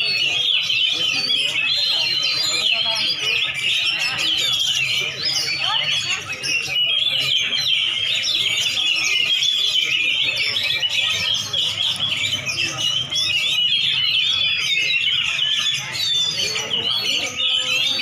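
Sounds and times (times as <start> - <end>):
songbirds chattering and trilling: 0.0 - 18.0.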